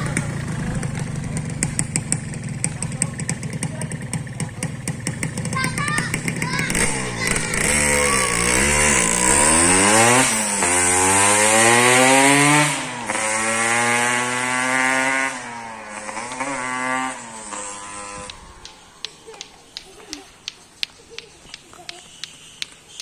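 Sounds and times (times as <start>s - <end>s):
motorcycle engine accelerating: 0.0s - 20.2s.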